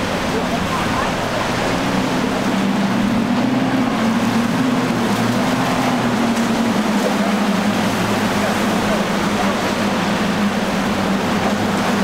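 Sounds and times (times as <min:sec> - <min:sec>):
churning water and spray: 0:00.0 - 0:12.0
outboard engines running hard: 0:00.0 - 0:12.0.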